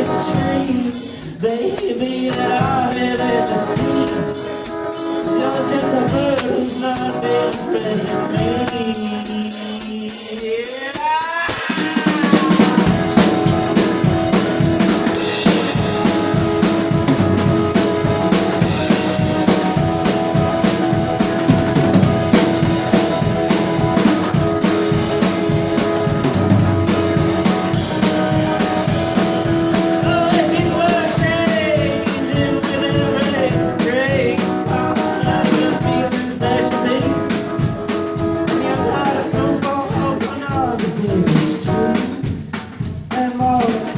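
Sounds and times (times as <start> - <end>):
held guitar chords: 0.0 - 10.2, 11.6 - 42.5
drums steady beat: 0.0 - 43.9.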